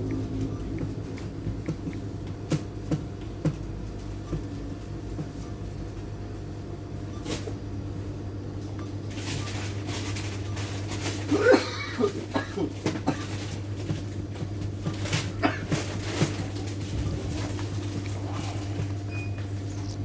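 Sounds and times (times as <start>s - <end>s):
machine low hum: 0.0s - 20.0s.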